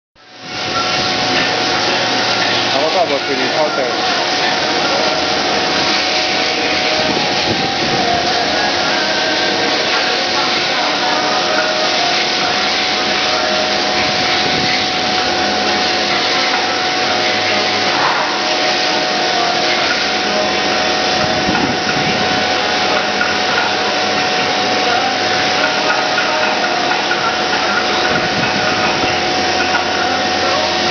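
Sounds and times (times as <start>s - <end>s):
machine whirring hiss: 0.2s - 30.9s
steady machine tones: 0.2s - 30.9s.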